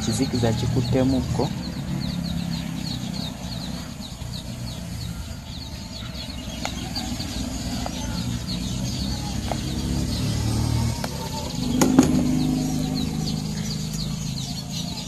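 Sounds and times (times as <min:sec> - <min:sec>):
low engine hum: 0:00.0 - 0:15.0
rapid high-pitched chirping: 0:00.0 - 0:15.0.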